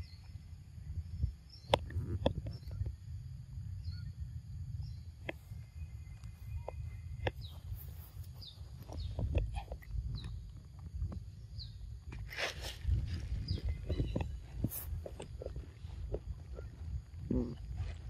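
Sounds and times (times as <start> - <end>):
bird chirping: 0.0 - 3.0, 3.6 - 12.0, 13.1 - 18.0
low wind rumble: 0.0 - 18.0.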